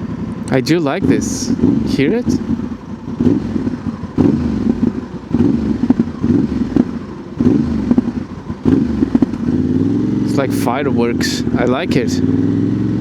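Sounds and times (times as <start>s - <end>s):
exhaust popping and crackling: 0.0s - 13.0s
motorcycle engine revving: 0.0s - 13.0s.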